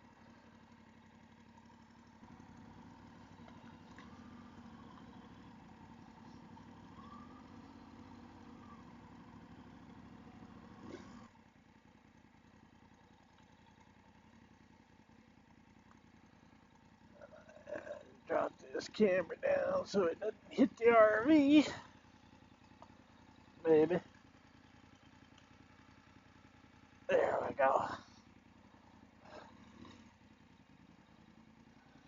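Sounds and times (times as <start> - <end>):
faint motorcycle engine: 0.0 - 32.0.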